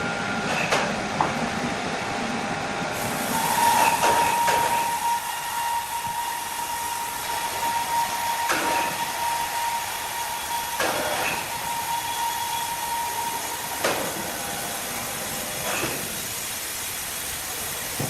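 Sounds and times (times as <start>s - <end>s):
machine hiss and high whine: 0.0s - 18.0s.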